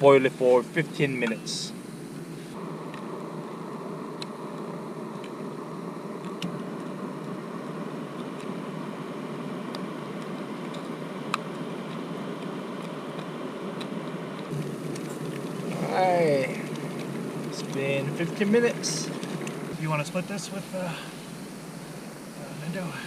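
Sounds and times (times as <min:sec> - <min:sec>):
camp stove burner rushing: 0:00.0 - 0:23.0.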